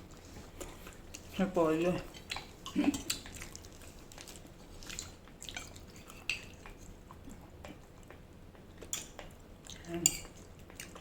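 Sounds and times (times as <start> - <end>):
wet chewing and lip-smacking: 2.0 - 11.0.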